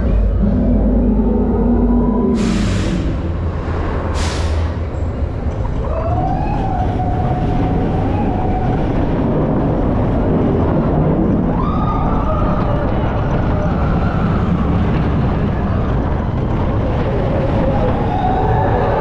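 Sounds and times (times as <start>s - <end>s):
roller coaster rumbling on track: 0.0s - 19.0s
rush of noise: 0.0s - 19.0s.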